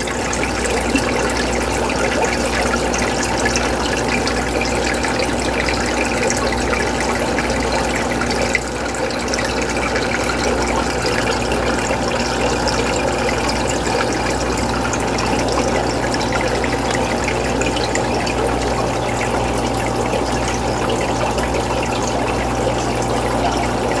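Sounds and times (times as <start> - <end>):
low equipment hum: 0.0 - 24.0
water trickling and bubbling: 0.0 - 24.0.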